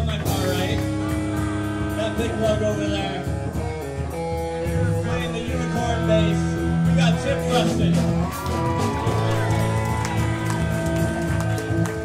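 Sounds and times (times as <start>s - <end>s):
metal band playing live: 0.0s - 12.0s.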